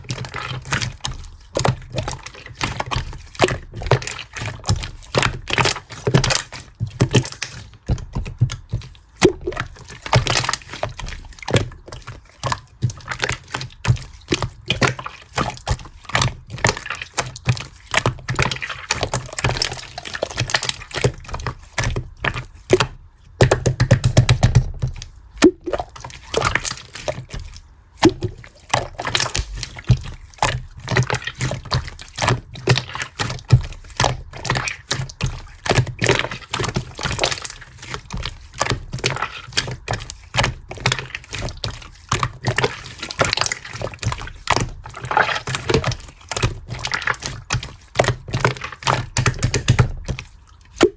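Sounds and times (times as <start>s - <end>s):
slime squishing with wet clicks: 0.0s - 50.9s.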